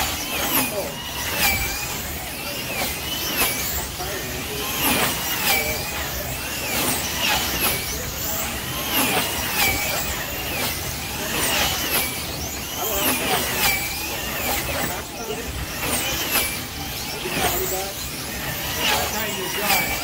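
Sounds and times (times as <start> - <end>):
slot car electric motors whining: 0.0 - 20.0.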